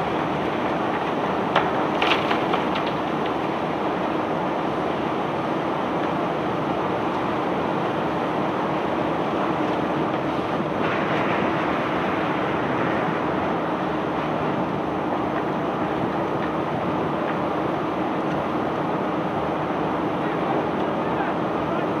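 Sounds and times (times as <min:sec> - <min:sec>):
low machinery hum: 0:00.0 - 0:22.0
machinery rumbling clatter: 0:00.0 - 0:22.0.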